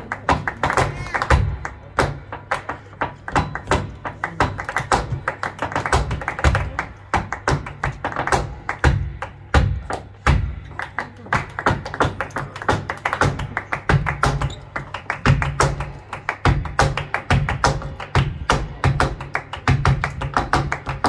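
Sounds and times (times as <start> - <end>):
sharp hand claps: 0.0 - 21.0.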